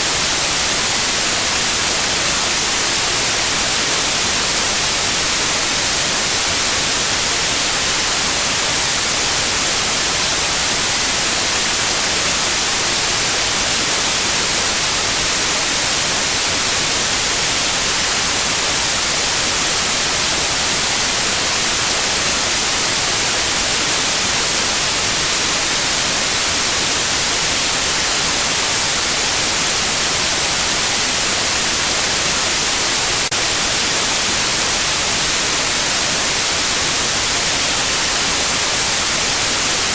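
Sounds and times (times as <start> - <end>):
high-pitched pure tone: 0.0 - 39.9
white noise: 0.0 - 39.9.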